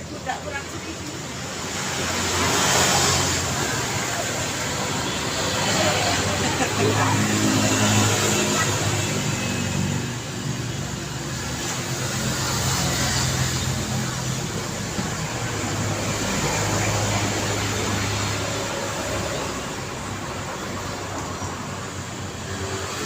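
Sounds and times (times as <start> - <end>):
road noise: 0.0 - 23.0
vehicles passing: 0.0 - 23.0.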